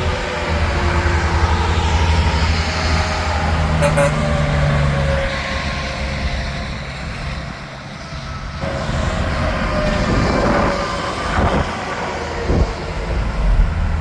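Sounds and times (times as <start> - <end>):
highway traffic passing: 0.0 - 14.0
truck engine hum: 0.0 - 14.0.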